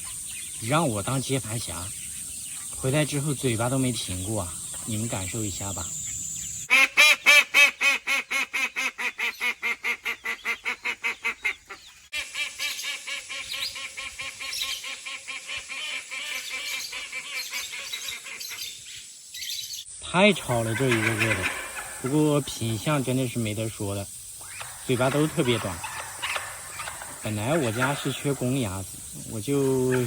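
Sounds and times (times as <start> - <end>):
ducks quacking: 2.6 - 18.8, 20.3 - 30.0.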